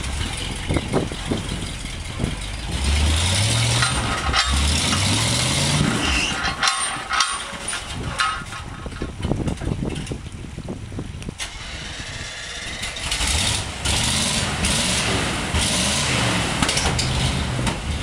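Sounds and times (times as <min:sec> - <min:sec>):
engine running: 0:00.0 - 0:10.4, 0:11.3 - 0:18.0.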